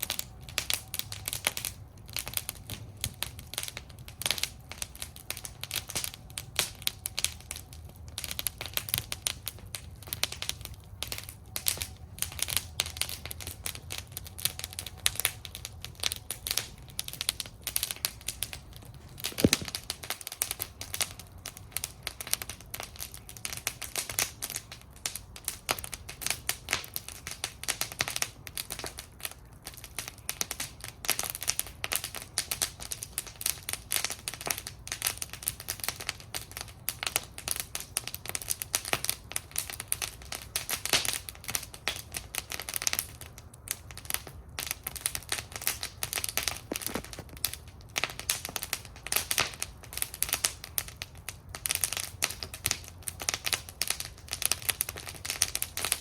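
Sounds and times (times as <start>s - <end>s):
campfire crackling and popping: 0.0s - 56.0s
low flame rumble: 0.0s - 56.0s.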